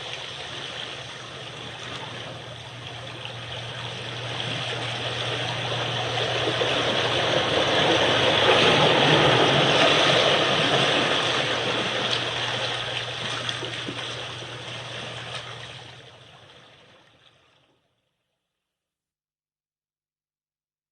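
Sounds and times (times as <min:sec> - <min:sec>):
water waves washing: 0:00.0 - 0:16.9.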